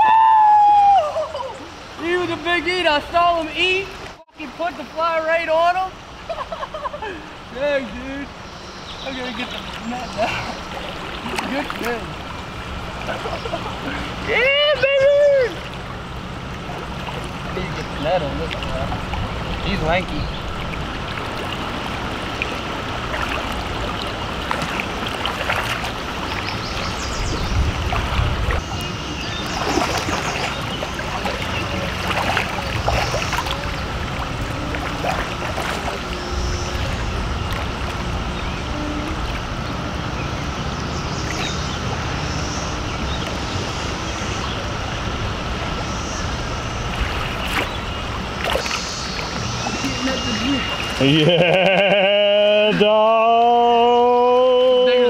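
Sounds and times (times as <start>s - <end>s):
cicadas droning: 0.0s - 55.0s
river current rushing: 0.0s - 55.0s
water splashes: 0.0s - 55.0s.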